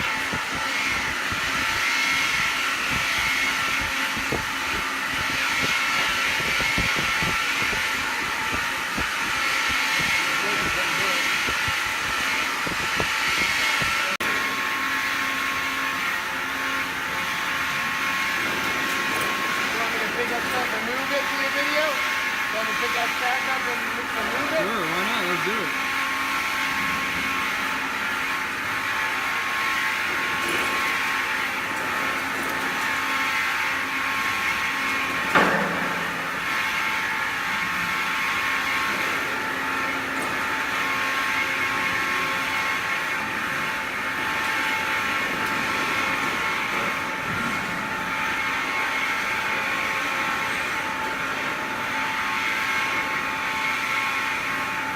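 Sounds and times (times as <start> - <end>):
industrial machinery running: 0.0 - 54.9.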